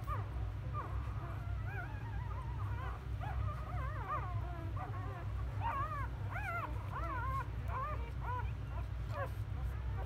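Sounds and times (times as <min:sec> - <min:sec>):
puppies whimpering: 0:00.0 - 0:10.0.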